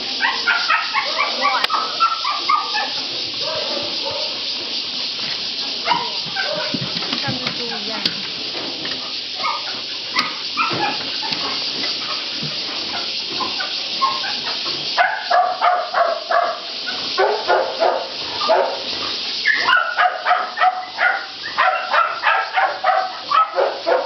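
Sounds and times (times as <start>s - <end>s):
steady hiss: 0.0s - 24.0s
dogs barking: 0.1s - 7.9s, 9.1s - 24.0s.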